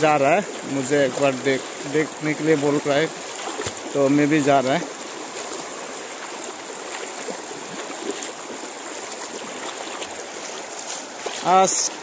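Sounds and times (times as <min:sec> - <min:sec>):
river water flowing over pebbles: 0:00.0 - 0:12.0.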